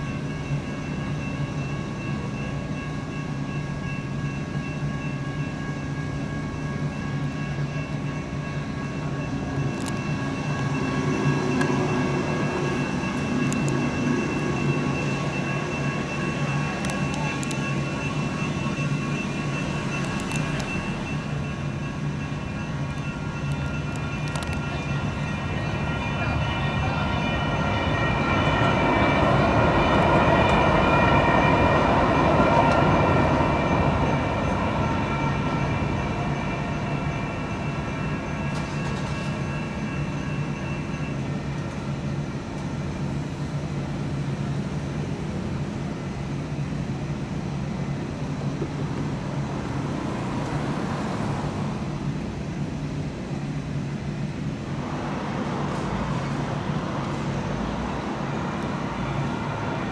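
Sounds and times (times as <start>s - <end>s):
crossing bell ringing: 0.0s - 53.1s, 54.2s - 59.9s
light-rail train passing: 0.0s - 59.9s
street traffic hum: 0.0s - 59.9s.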